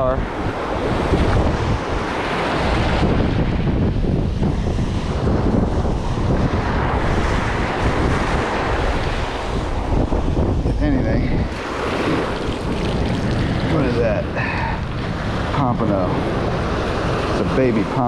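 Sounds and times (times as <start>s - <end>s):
rushing water: 0.0s - 18.0s
wind gusting on microphone: 0.0s - 18.0s.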